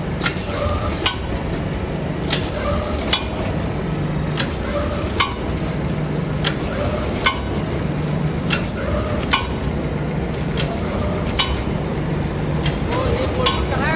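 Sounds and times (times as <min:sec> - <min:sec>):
packing machine low hum: 0:00.0 - 0:13.9
sharp mechanical clacks: 0:00.1 - 0:13.8.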